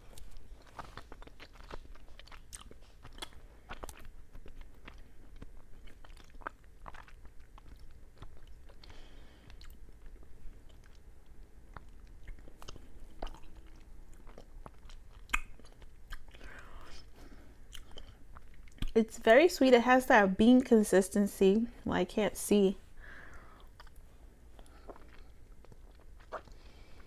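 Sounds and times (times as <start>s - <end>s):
person chewing: 0.0s - 19.0s, 23.2s - 27.0s.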